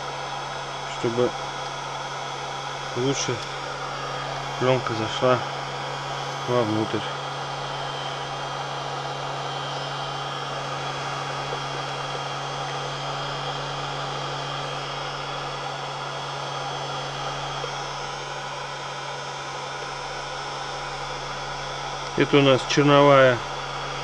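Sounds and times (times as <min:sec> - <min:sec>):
heat gun blowing hot air: 0:00.0 - 0:24.0.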